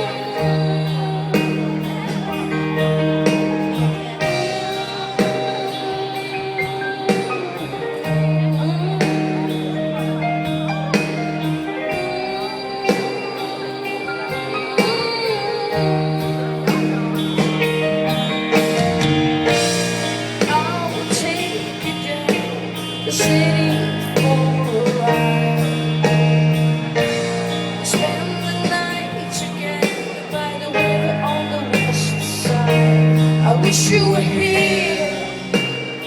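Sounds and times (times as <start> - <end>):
live rock band playing: 0.0 - 36.0
steady drum beat: 0.0 - 36.0.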